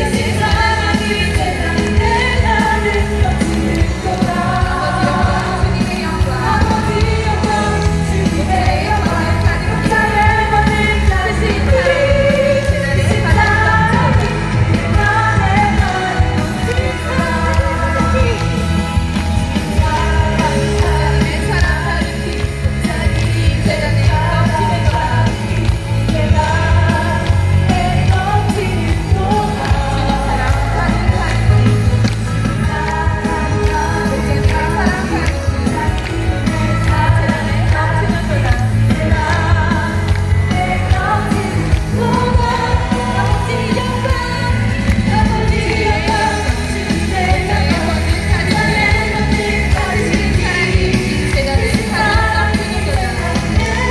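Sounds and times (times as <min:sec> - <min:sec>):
heavy bass music over loudspeakers: 0:00.0 - 0:53.9
person singing: 0:00.0 - 0:53.9.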